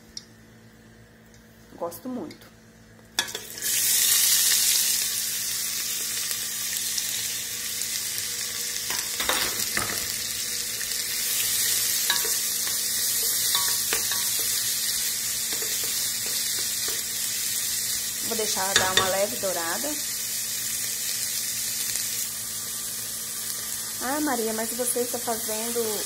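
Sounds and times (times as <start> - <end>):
vegetables sizzling in hot fat: 3.2 - 26.0.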